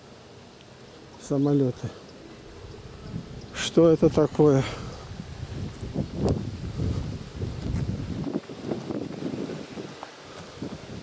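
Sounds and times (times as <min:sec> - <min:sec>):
leaves rustling: 0:00.0 - 0:11.0
wind gusting against microphone: 0:01.6 - 0:11.0.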